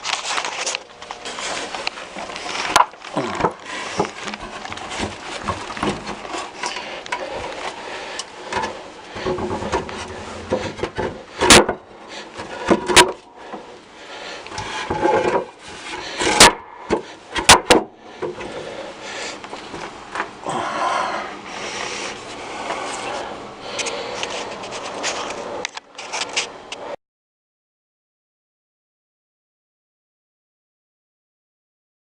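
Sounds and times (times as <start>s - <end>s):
rubbing and scraping handling: 0.0s - 20.4s, 21.5s - 27.0s.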